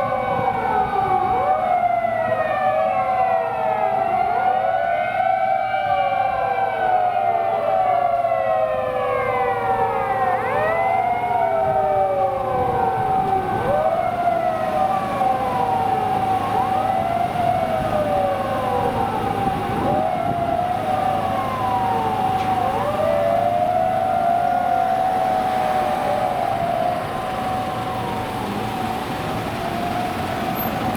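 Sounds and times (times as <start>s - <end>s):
fire engine siren wailing: 0.0s - 30.9s.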